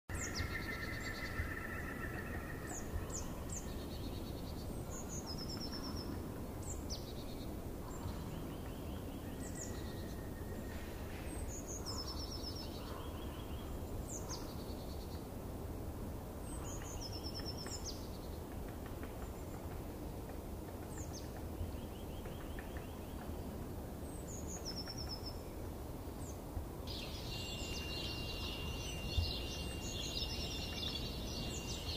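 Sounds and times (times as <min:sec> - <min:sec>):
small birds chirping: 0:00.1 - 0:15.3, 0:20.8 - 0:31.9
dense high hiss: 0:00.1 - 0:31.9
steady low background noise: 0:00.1 - 0:31.9.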